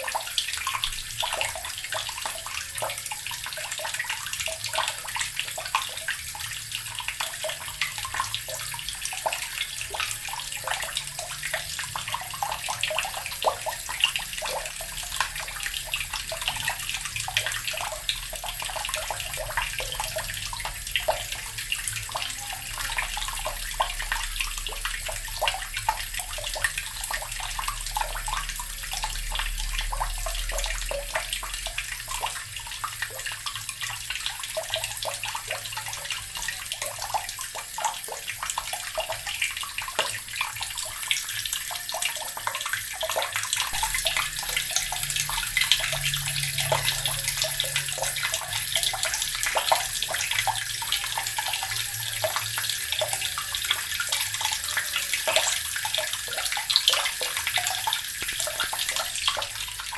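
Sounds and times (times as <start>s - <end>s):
tap water running and splashing: 0.0s - 59.9s.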